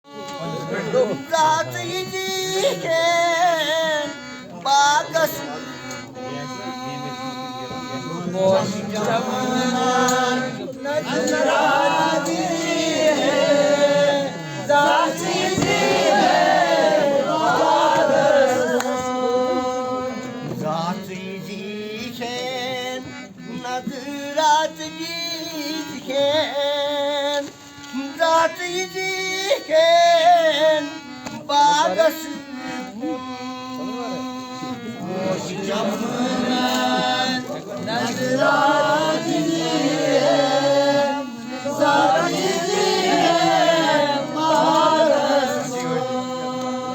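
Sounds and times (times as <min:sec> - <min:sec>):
person singing folk song: 0:00.1 - 0:46.9.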